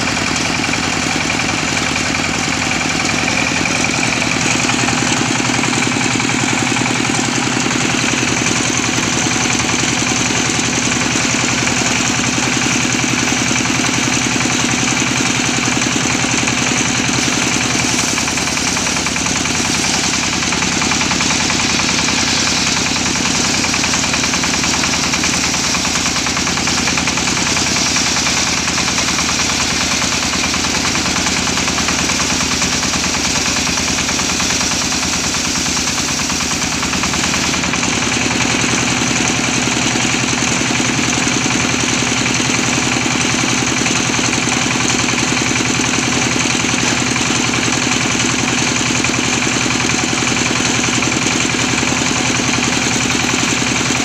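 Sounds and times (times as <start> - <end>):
saw blade cutting log: 0.0 - 54.0
sawmill engine running: 0.0 - 54.0.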